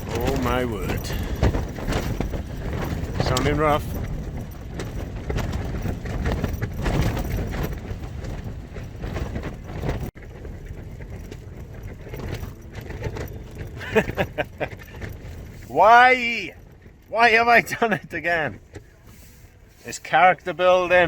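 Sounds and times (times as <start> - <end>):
tent fabric flapping: 0.0 - 21.0.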